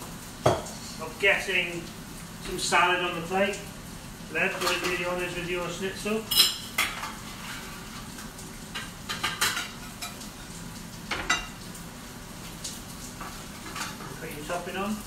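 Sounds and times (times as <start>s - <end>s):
frying sizzle: 0.0s - 15.0s.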